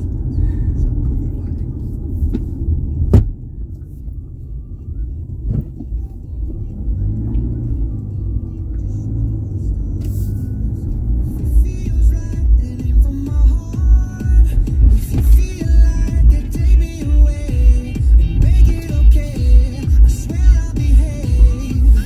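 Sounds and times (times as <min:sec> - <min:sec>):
car cabin road noise: 0:00.0 - 0:22.0.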